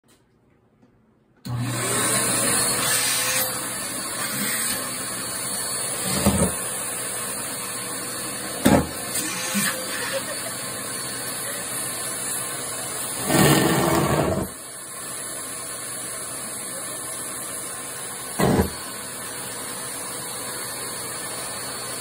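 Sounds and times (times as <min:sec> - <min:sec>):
vacuum cleaner running: 0:01.4 - 0:22.0.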